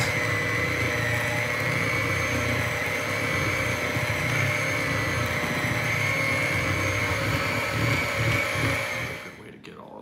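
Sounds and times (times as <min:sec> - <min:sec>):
electric hand mixer running: 0:00.0 - 0:09.5.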